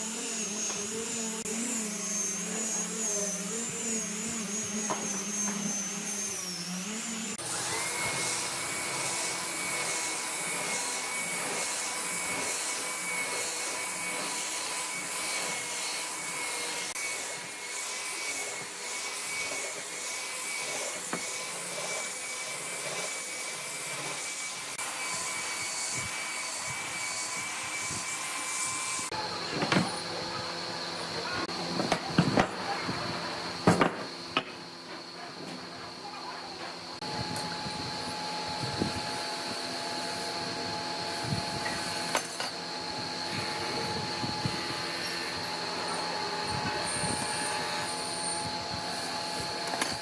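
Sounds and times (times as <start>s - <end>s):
power tool motor whining: 0.0s - 50.0s.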